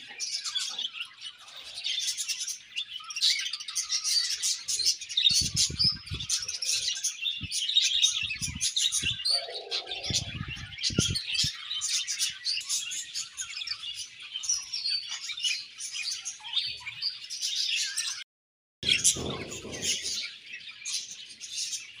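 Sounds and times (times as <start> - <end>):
budgerigars chirping: 0.0 - 18.2, 18.8 - 22.0.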